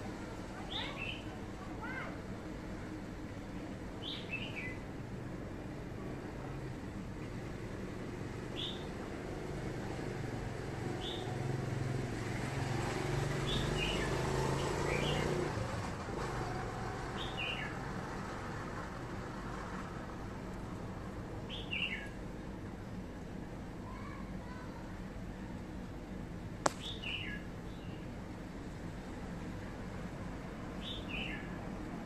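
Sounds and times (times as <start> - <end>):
low hum of distant traffic: 0.0 - 32.0.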